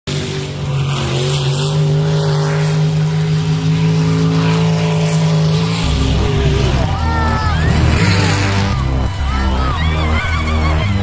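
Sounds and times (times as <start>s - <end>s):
motor running steadily: 1.7s - 11.0s.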